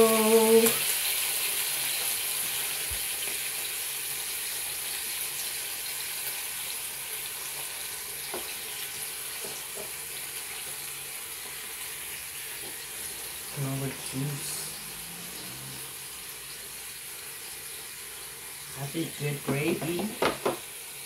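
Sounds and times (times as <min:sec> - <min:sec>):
meat sizzling: 0:00.0 - 0:21.0.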